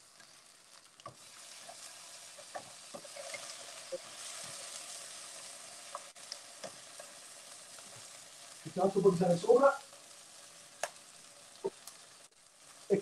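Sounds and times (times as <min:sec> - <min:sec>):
octopus sizzling in oil: 0:00.0 - 0:13.0.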